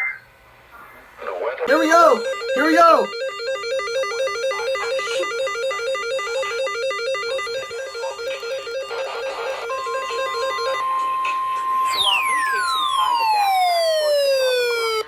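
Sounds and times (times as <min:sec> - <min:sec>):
fast plucked-note music: 0:01.7 - 0:13.8.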